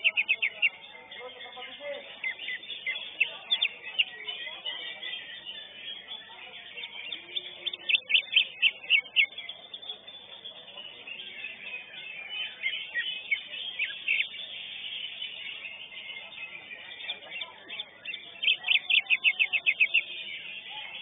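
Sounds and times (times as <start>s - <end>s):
bird singing sharp chirps: 0.0s - 21.0s.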